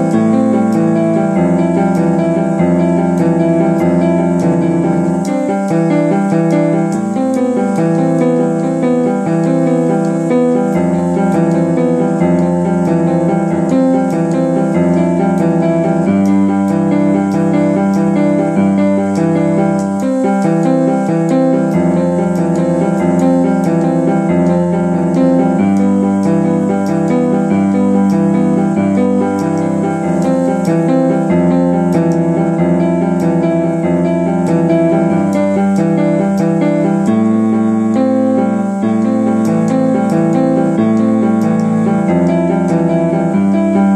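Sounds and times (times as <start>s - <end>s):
piano-like keyboard chords: 0.0s - 43.9s.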